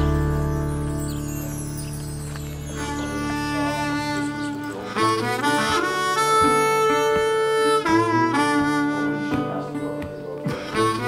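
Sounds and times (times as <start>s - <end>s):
reedy wind instrument melody: 0.0s - 11.0s.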